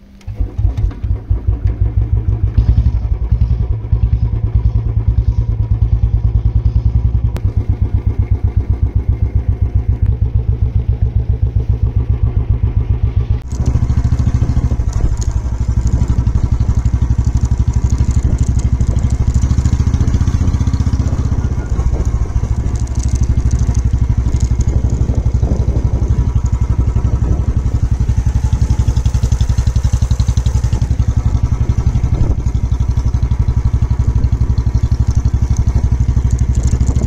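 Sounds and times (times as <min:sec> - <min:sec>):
motorcycle engine starting: 0:00.0 - 0:37.0
motorcycle engine thumping: 0:00.3 - 0:37.0.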